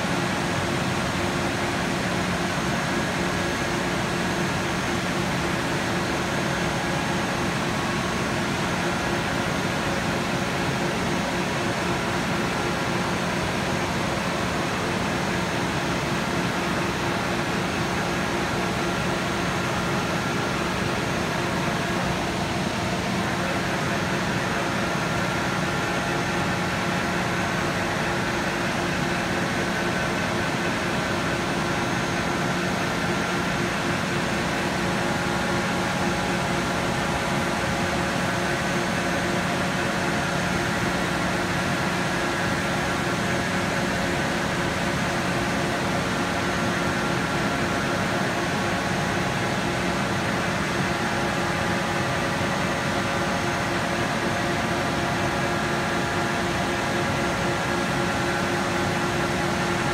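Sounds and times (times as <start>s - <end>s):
machine shop drone: 0.0s - 59.9s.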